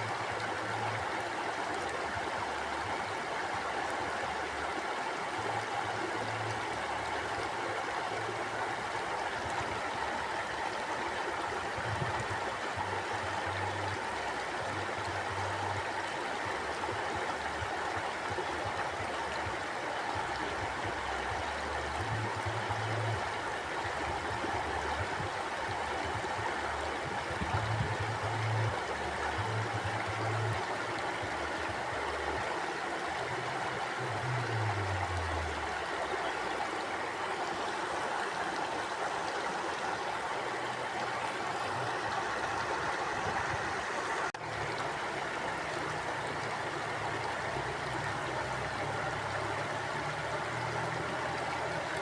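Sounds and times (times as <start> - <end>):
river rushing: 0.0 - 52.0.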